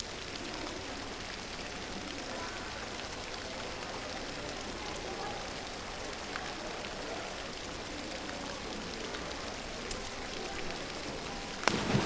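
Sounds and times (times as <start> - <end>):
faint ticks: 0.0 - 12.0
pool water hissing: 0.0 - 12.0.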